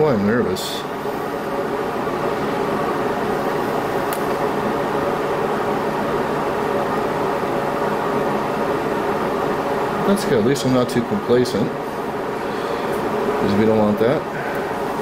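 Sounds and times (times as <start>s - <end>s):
mechanical whirring hum: 0.0s - 15.0s.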